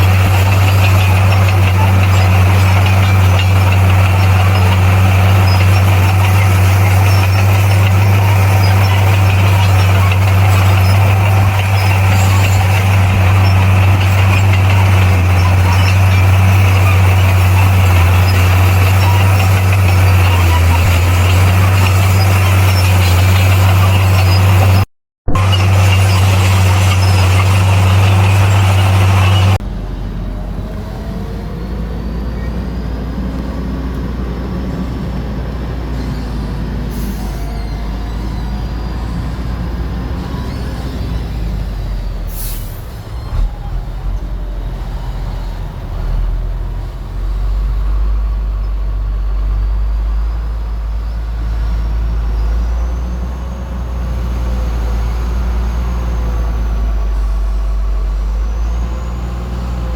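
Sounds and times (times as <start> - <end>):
diesel machinery engine rumble: 0.0 - 59.9.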